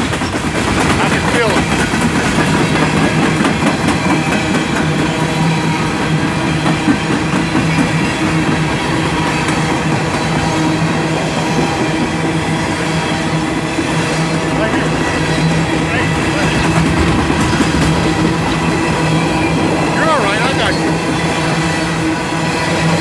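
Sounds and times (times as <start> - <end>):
freight train rolling past: 0.0 - 23.0.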